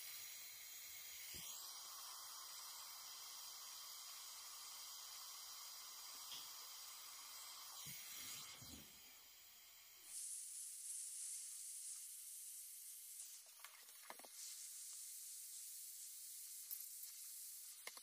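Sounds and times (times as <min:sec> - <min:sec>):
gas torch flame hissing: 0:00.0 - 0:13.4, 0:14.2 - 0:18.0.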